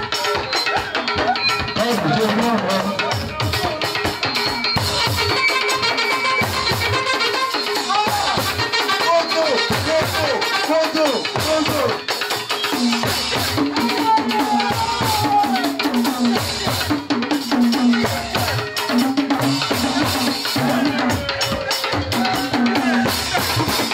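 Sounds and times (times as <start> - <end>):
steady drum beat: 0.0 - 23.9
talking drums pitch-bending strokes: 0.0 - 23.9.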